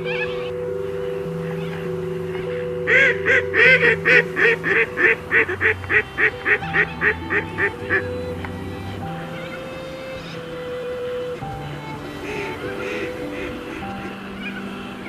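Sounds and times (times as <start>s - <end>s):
background music: 0.0s - 15.0s
waterfowl honking quacks: 1.4s - 15.0s.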